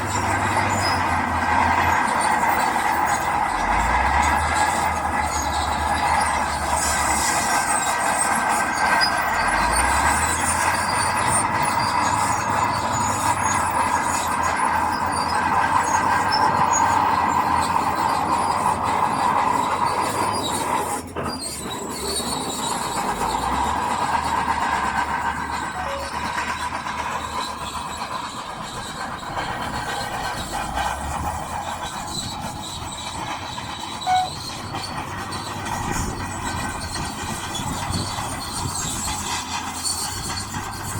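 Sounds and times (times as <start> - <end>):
heavy machinery working: 0.0 - 40.9
high metallic squeal: 0.0 - 40.9.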